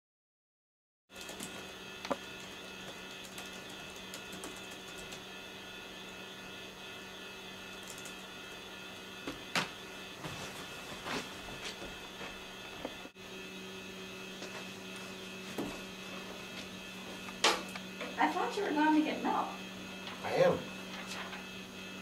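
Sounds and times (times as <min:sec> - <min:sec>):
steady electrical hum: 0:01.1 - 0:22.0.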